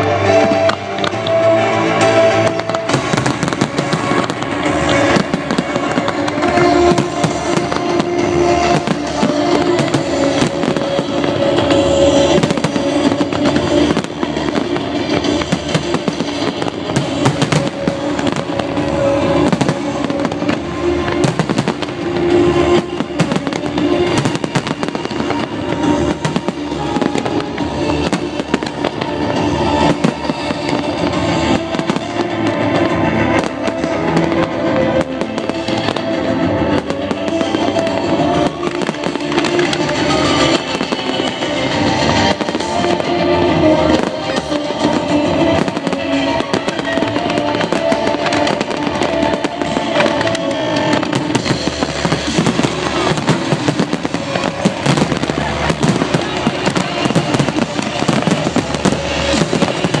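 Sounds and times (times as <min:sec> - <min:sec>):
fireworks bangs and crackles: 0:00.0 - 1:00.0
music playing: 0:00.0 - 1:00.0.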